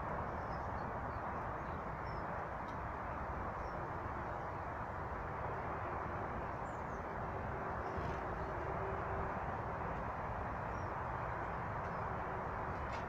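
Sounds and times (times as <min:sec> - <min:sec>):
low rushing background noise: 0:00.0 - 0:13.0.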